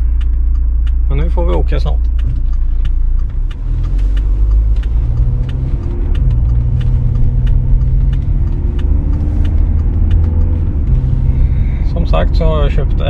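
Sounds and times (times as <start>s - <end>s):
diesel car engine accelerating: 0.0s - 13.0s.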